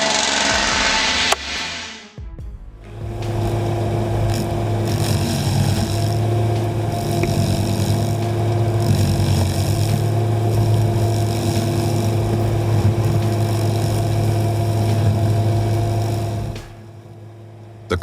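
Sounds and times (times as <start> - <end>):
heavy vehicle engine humming: 2.8 - 18.0.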